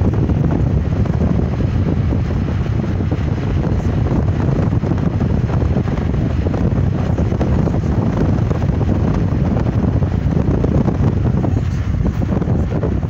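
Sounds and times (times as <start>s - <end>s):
car road noise: 0.0s - 13.0s
wind buffeting microphone: 0.0s - 13.0s.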